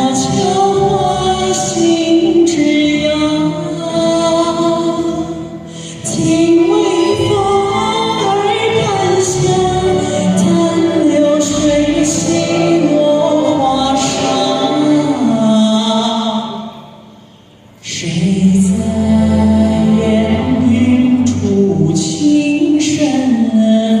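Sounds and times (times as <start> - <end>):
backing music: 0.0 - 24.0.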